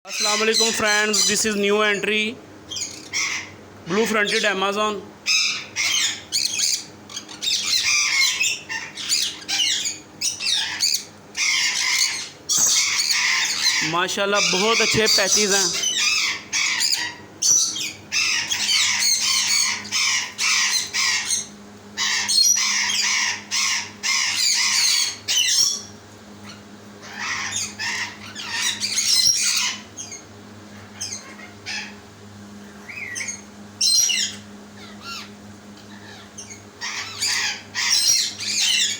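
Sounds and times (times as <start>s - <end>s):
parrot squawking: 0.1s - 2.1s, 2.7s - 32.0s, 32.8s - 38.9s
steady low hum: 0.1s - 38.9s.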